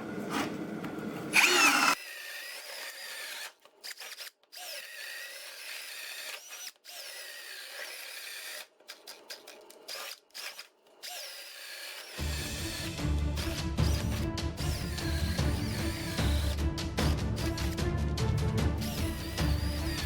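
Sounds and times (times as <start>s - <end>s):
cordless drill boring holes: 1.3s - 16.6s, 17.4s - 17.8s, 18.8s - 20.0s.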